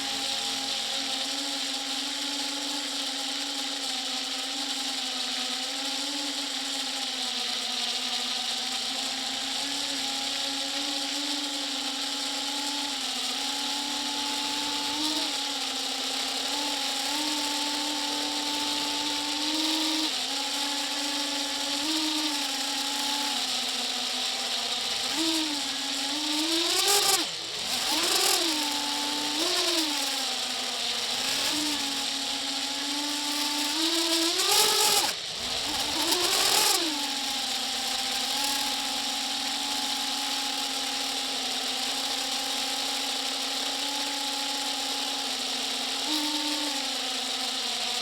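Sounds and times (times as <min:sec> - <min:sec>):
small engine revving: 0:00.0 - 0:48.0.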